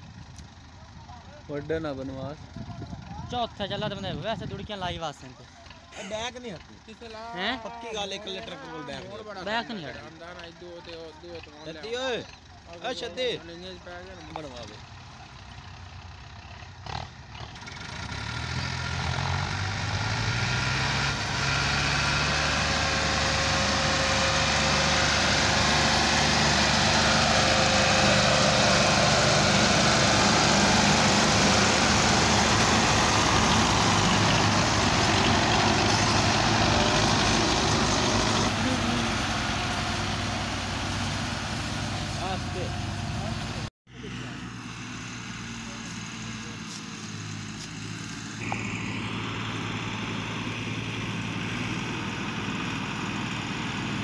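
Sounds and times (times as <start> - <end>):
diesel tractor engines under load: 0.0 - 54.0.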